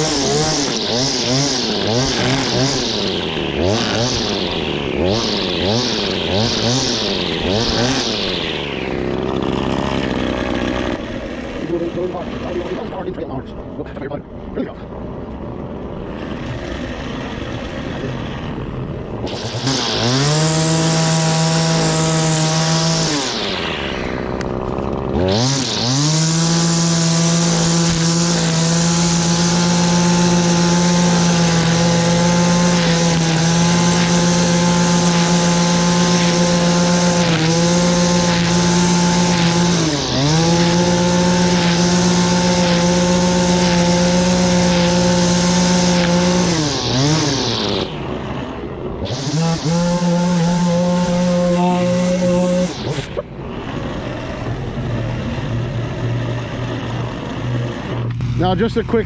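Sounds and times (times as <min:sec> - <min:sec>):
string trimmer engine revving: 0:00.0 - 0:59.0.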